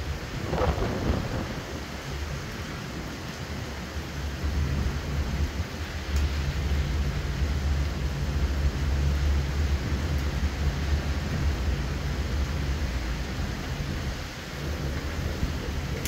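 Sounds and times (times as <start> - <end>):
gusting wind rumble: 0.0 - 16.0
heavy rain hissing: 0.0 - 16.0.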